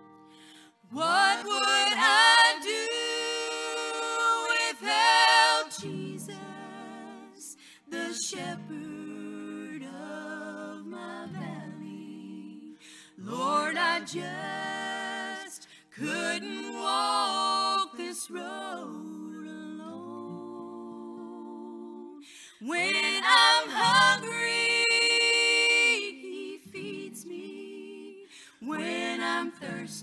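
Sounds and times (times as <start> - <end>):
women singing in harmony: 0.8 - 30.0.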